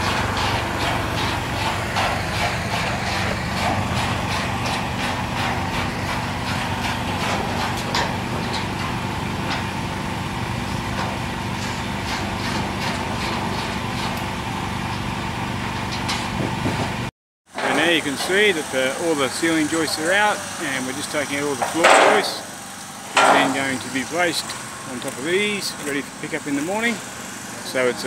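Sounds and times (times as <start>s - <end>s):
steel joists clinking: 0.0s - 15.2s, 17.5s - 28.0s
heavy machinery engine idling: 0.0s - 28.0s.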